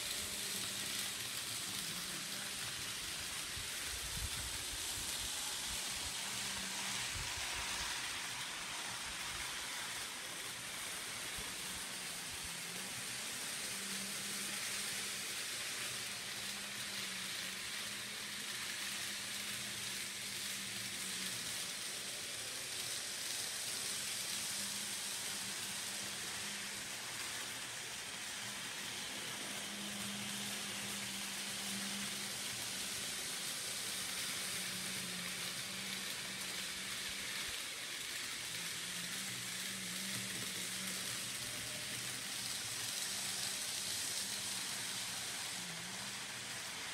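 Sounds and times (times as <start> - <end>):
model train running hiss: 0.0 - 46.9.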